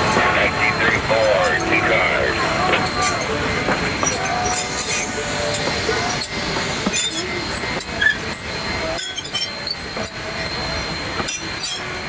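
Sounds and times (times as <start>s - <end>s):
high wheel squeaks: 0.0s - 12.0s.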